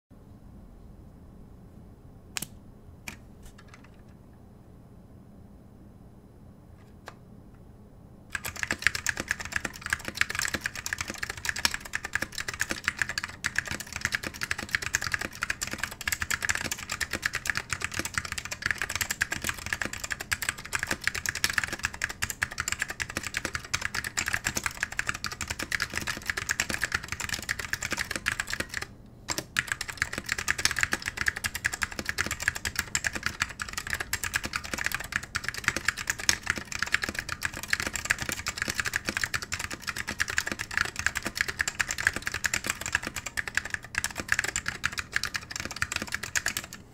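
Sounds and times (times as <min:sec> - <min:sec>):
mechanical keyboard typing: 0:08.3 - 0:46.8.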